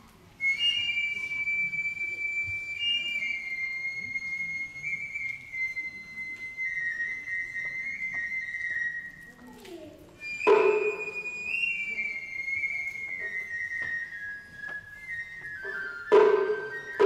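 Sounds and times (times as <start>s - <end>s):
bamboo flute playing long notes: 0.0s - 9.5s, 10.2s - 17.0s.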